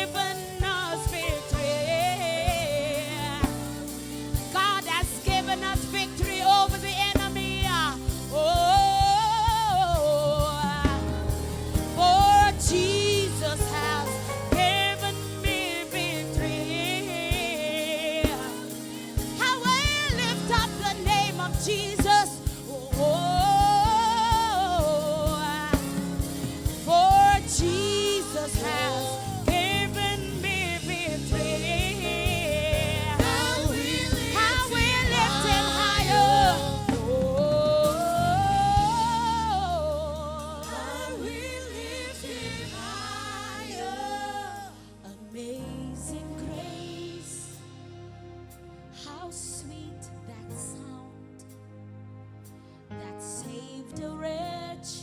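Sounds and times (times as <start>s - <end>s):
band with drums: 0.0s - 44.5s
person singing with vibrato: 0.0s - 47.9s.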